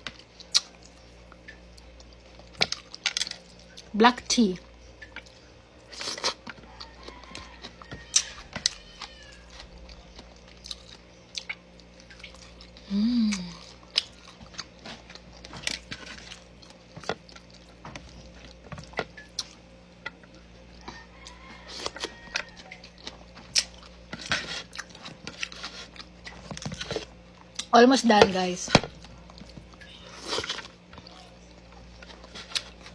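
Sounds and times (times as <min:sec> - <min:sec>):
chewing and mouth smacks: 0:00.0 - 0:03.9, 0:05.0 - 0:27.7, 0:28.9 - 0:32.9.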